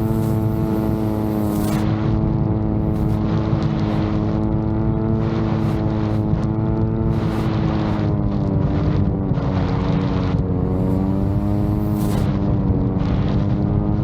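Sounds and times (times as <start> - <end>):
drone propellers humming: 0.0 - 14.0
wind rumble on microphone: 0.0 - 14.0.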